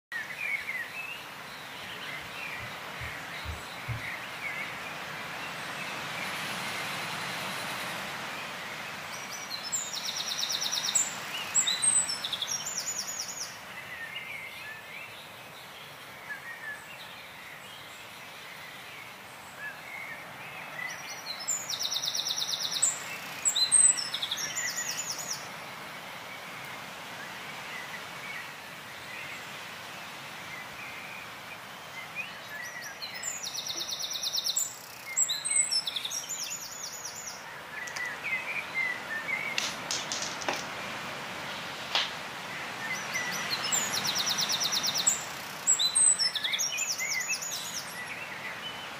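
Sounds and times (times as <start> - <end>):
small birds chirping: 0.1 - 6.4, 8.4 - 29.7, 30.4 - 48.9
background hiss: 0.2 - 48.9.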